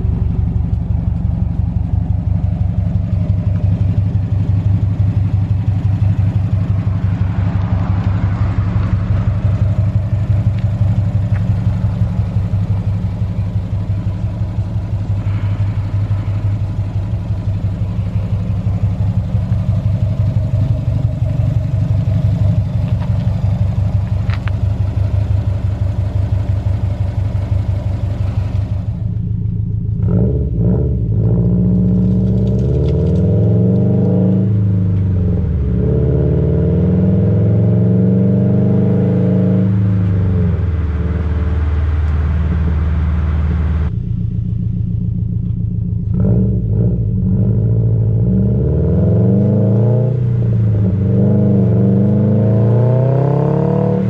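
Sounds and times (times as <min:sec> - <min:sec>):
car engine and exhaust: 0:00.0 - 0:54.0.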